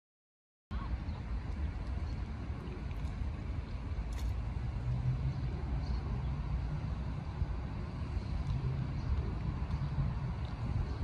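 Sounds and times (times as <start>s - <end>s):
low outdoor rumble: 0.7s - 11.0s.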